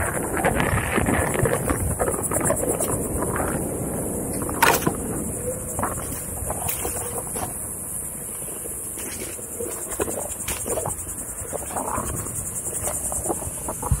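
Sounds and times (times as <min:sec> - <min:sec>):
insect chorus: 0:00.0 - 0:14.0
wheel rolling over sand: 0:00.0 - 0:14.0
wind rumble on microphone: 0:00.0 - 0:14.0.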